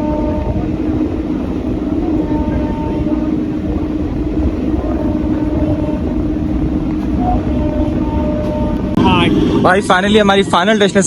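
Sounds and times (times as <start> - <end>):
constant hum: 0.0 - 11.0
train rumbling: 0.0 - 11.0.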